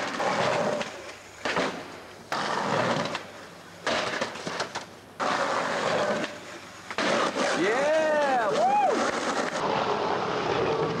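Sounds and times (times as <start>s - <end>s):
skateboard clacks: 0.0s - 11.0s
skateboard wheels rolling on concrete: 0.0s - 11.0s.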